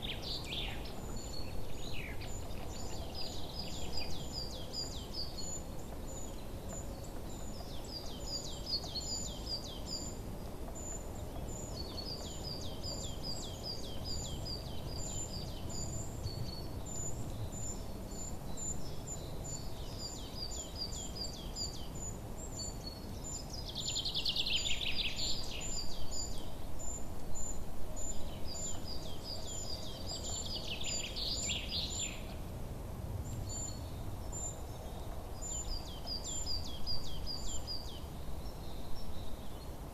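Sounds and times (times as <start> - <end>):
bird song phrases: 0.0 - 32.5, 33.2 - 39.9
small birds chirping: 0.0 - 32.5, 33.2 - 39.9.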